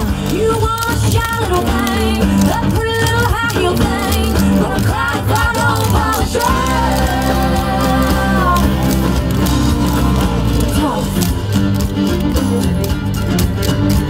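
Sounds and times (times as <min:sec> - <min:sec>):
person singing: 0:00.0 - 0:11.5
rock song with bass and guitar: 0:00.0 - 0:14.0.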